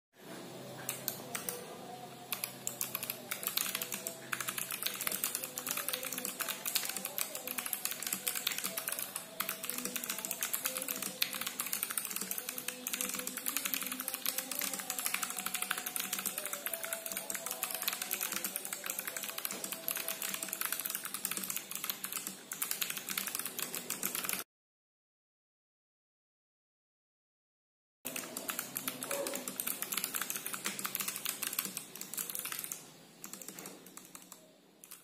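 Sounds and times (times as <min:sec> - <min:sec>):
faint music: 0:00.2 - 0:24.4, 0:28.1 - 0:35.0
mechanical keyboard typing: 0:00.8 - 0:01.6, 0:02.3 - 0:24.4, 0:28.1 - 0:35.0.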